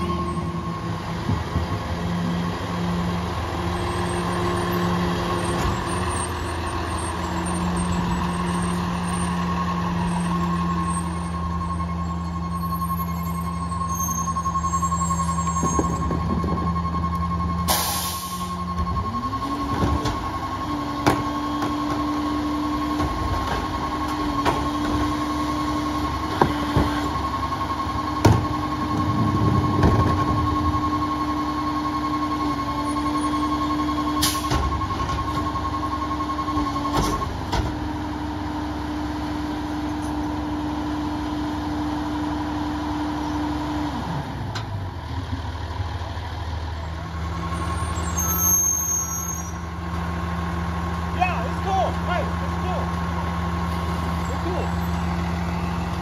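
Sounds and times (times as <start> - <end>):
garbage truck engine revving: 0.0 - 56.0.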